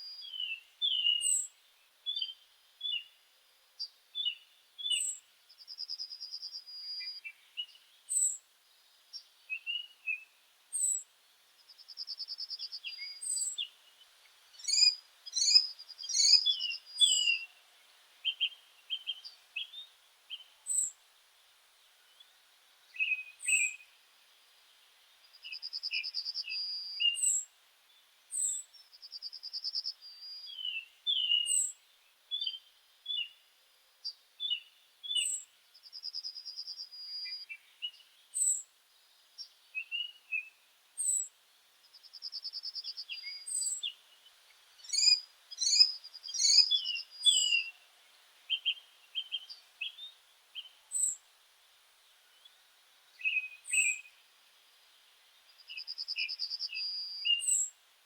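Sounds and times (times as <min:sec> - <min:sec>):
songbirds singing: 0:00.0 - 0:57.8.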